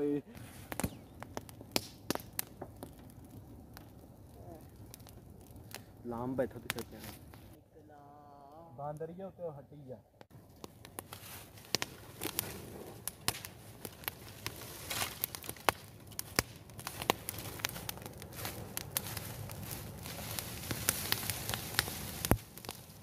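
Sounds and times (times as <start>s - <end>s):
sharp pops of fire: 0.0s - 7.6s, 10.2s - 23.0s
bonfire crackling: 0.0s - 23.0s.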